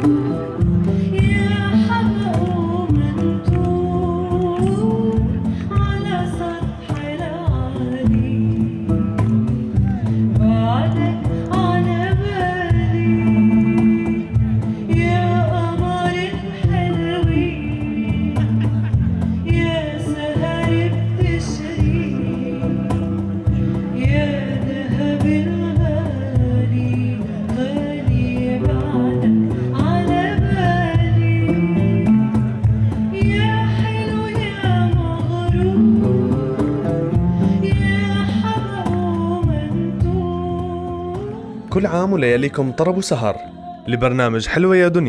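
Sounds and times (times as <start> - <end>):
woman singing with vibrato: 0.0 - 9.0, 10.2 - 36.8, 37.4 - 41.8, 42.7 - 44.3
plucked strings: 0.0 - 42.3.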